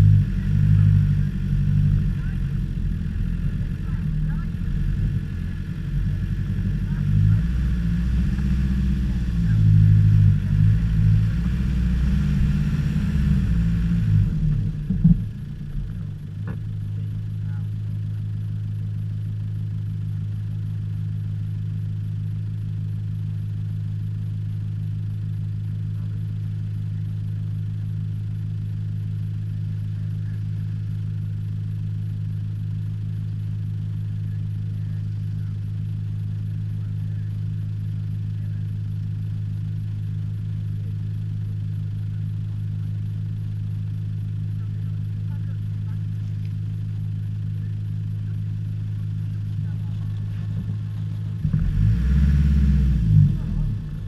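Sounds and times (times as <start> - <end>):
engine droning at low revs: 0.0 - 54.0.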